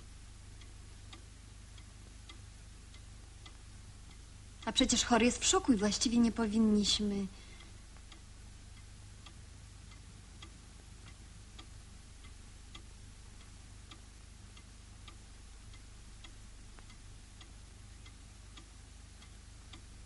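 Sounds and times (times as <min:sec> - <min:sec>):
clock ticking: 0:00.0 - 0:20.0
film soundtrack hiss and hum: 0:00.0 - 0:20.0.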